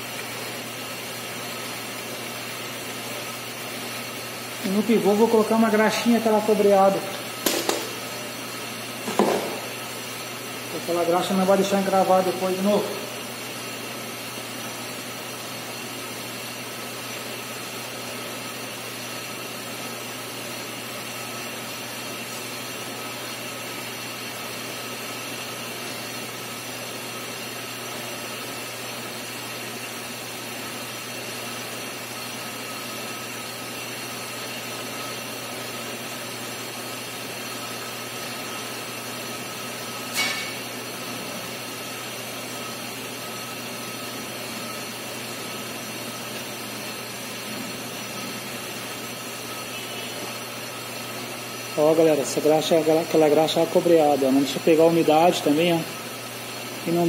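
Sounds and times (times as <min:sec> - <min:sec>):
brake lathe machine whine: 0:00.0 - 0:57.0.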